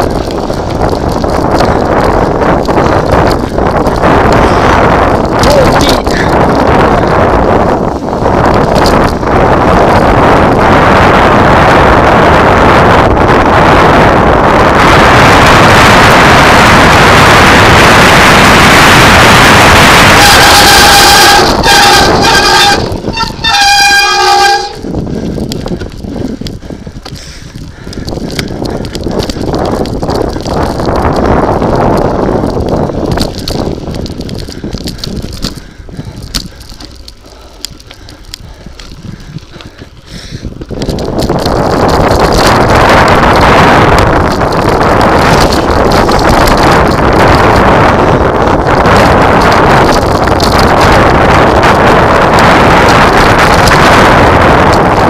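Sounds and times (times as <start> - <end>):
tyres rolling over gravel: 0.0 - 11.5, 13.2 - 55.0
wind buffeting microphone: 0.0 - 55.0.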